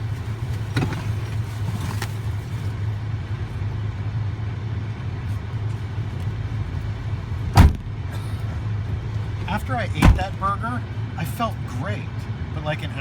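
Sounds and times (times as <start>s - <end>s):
car low hum: 0.0s - 13.0s.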